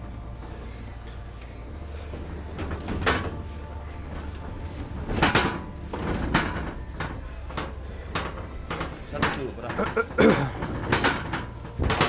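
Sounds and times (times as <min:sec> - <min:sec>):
objects knocking and clattering: 0:00.0 - 0:12.0
steady low hum: 0:00.0 - 0:12.0.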